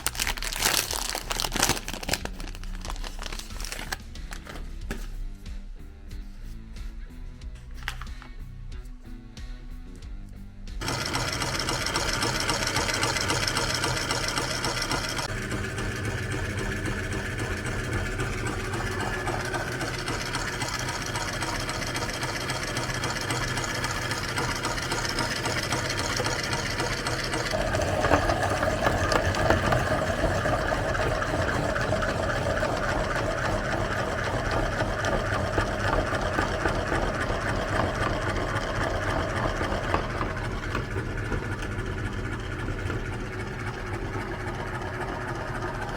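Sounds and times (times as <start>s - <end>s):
meat grinder running: 0.0s - 4.6s, 10.8s - 45.9s.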